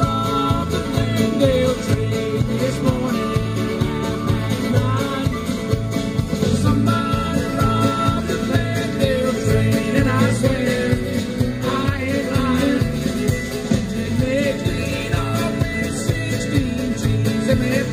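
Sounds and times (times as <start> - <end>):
live country-rock band playing: 0.0 - 17.9.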